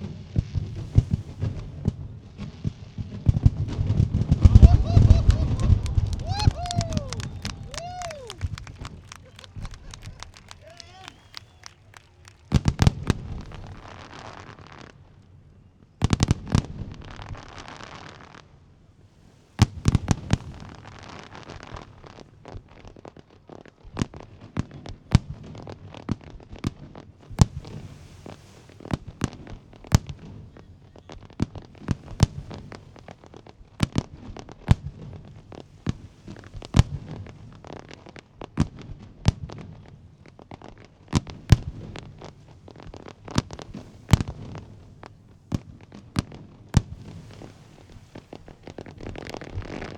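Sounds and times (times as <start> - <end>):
single firework reports: 0.0 - 15.2, 15.8 - 18.4, 19.0 - 23.0, 27.2 - 49.9
fireworks bangs with crackle: 0.0 - 49.9.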